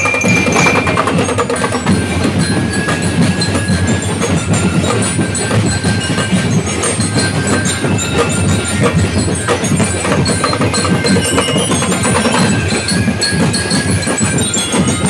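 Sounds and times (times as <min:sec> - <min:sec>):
marching band playing: 0:00.0 - 0:15.0
metal bell-lyres ringing: 0:00.0 - 0:15.0
steady drum beat: 0:00.0 - 0:15.0.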